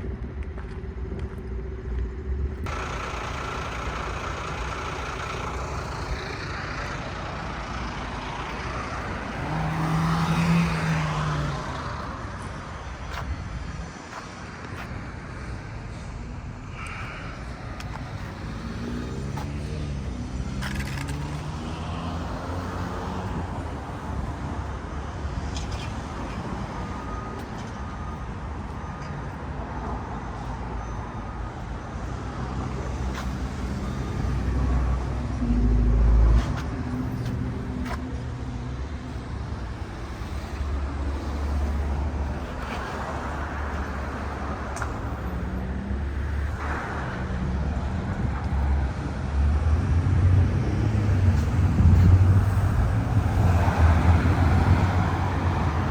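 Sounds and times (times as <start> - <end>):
cars driving past: 2.6 - 55.9.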